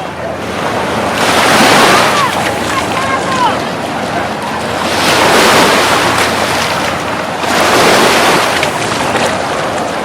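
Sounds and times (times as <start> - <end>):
ocean surf washing on beach: 0.0 - 10.0.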